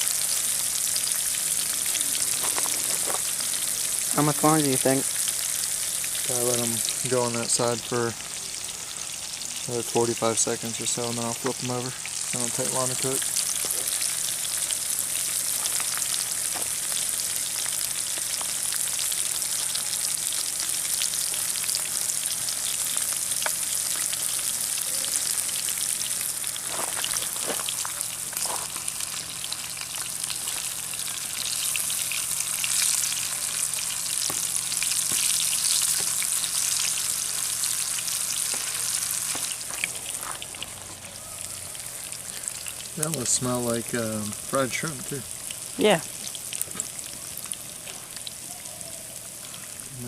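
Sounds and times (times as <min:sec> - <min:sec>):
fish frying in hot grease: 0:00.0 - 0:50.0.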